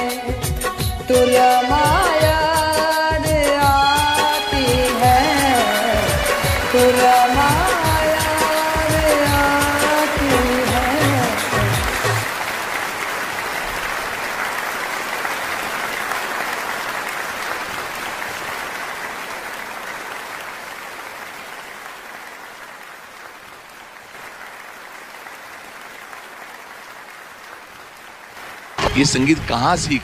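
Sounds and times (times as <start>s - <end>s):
audience applauding: 3.9s - 30.0s.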